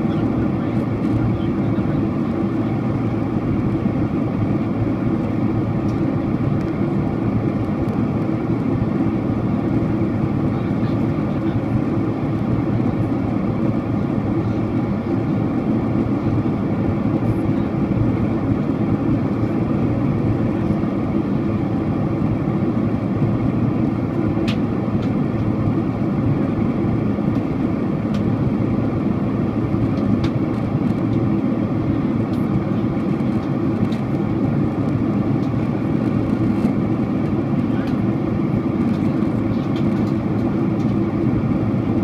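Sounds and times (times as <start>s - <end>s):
jet engines and air roar in cabin: 0.0s - 42.0s.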